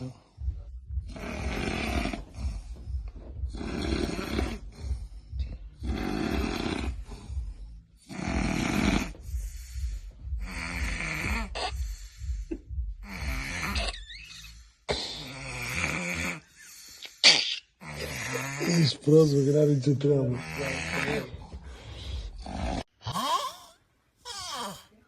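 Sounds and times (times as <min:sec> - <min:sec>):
person snoring: 0:00.0 - 0:25.0.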